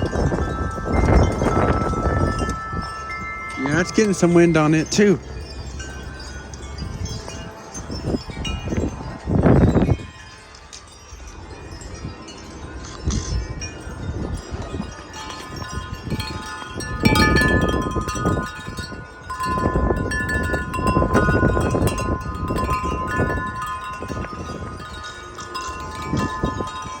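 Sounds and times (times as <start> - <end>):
wind buffeting microphone: 0.0 - 27.0
wind chime ringing: 0.0 - 27.0.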